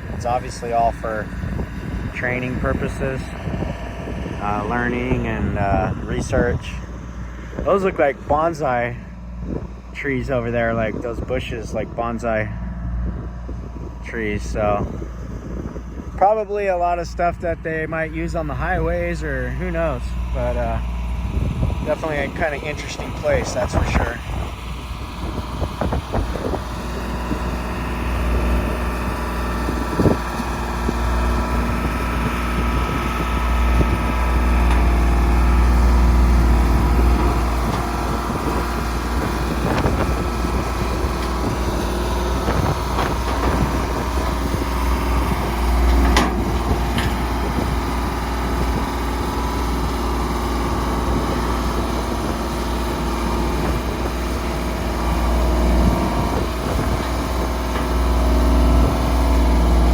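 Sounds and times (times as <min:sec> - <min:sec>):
engine and road noise rumble: 0:00.0 - 0:59.9.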